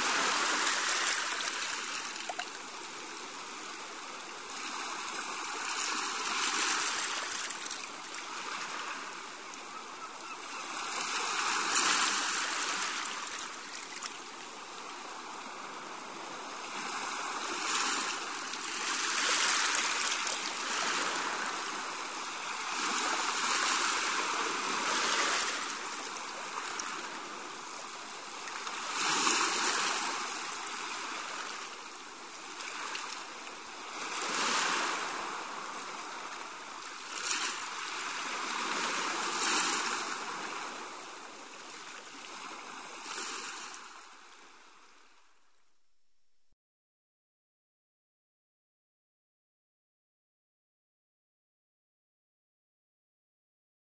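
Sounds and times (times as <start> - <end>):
sea waves washing on shore: 0.0 - 45.2.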